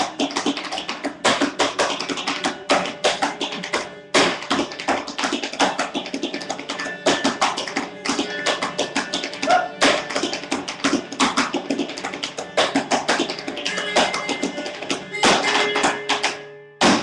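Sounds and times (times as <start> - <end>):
foot stamp: 0.0 - 17.0
tap dancing shoe taps: 0.0 - 17.0.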